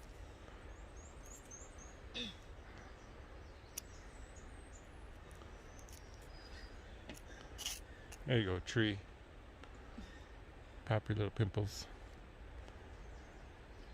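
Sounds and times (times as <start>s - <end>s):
low hiss and rumble: 0.0s - 13.9s.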